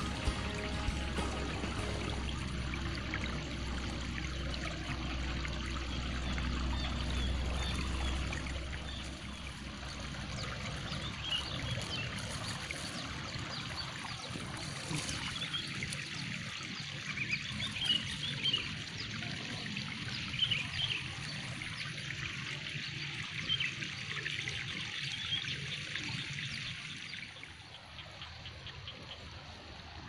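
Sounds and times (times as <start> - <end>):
water trickling: 0.0 - 30.0.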